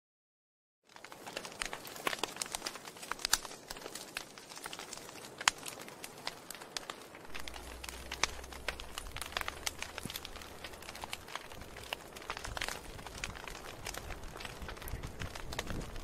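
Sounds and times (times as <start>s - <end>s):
straw and kindling crackling: 0.8s - 16.0s.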